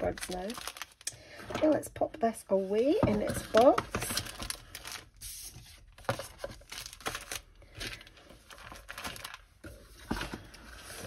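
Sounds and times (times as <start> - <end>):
plastic bags crinkling: 0.0 - 1.8, 2.8 - 5.2, 5.8 - 11.0.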